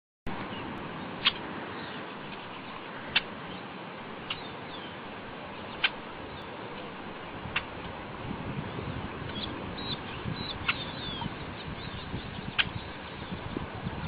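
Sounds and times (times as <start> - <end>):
steady background hiss: 0.3 - 14.0
bird chirping: 0.5 - 6.9, 8.7 - 13.6.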